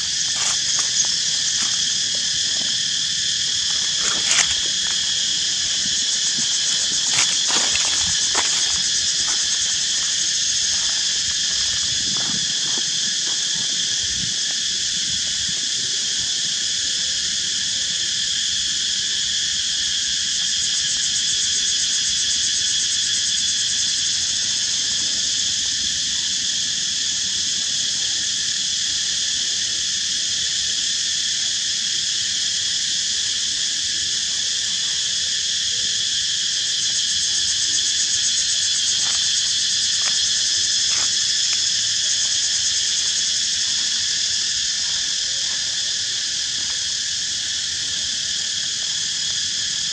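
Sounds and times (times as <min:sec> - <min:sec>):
shrill insect chorus: 0:00.0 - 0:49.9.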